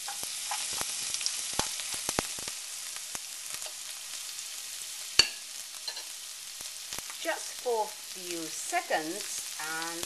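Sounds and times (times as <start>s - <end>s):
ginger sizzling in hot oil: 0.0s - 10.0s.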